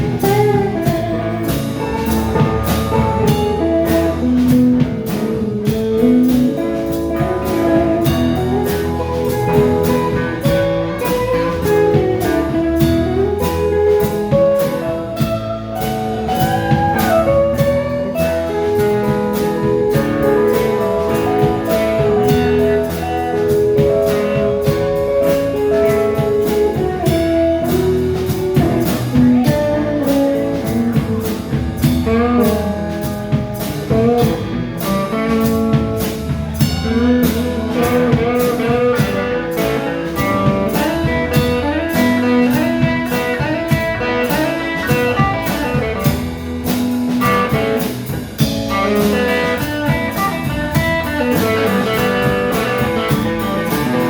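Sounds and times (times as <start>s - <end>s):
drums: 0.0s - 54.0s
guitar lead with bent notes: 0.0s - 54.0s.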